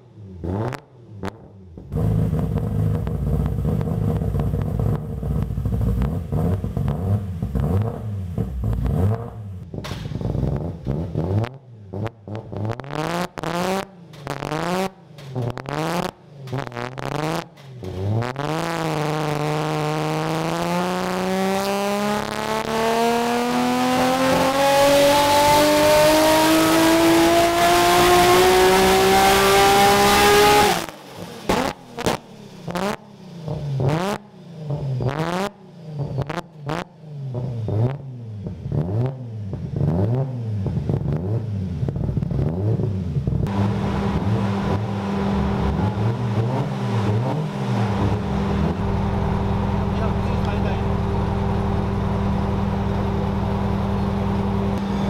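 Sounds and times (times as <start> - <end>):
car engine revving on dynamometer: 0.2 - 9.6, 10.2 - 55.0.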